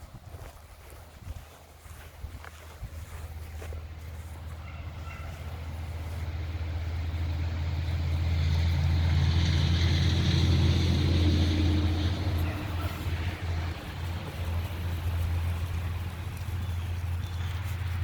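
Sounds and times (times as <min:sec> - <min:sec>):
motor vehicle passing by: 0:03.1 - 0:18.0.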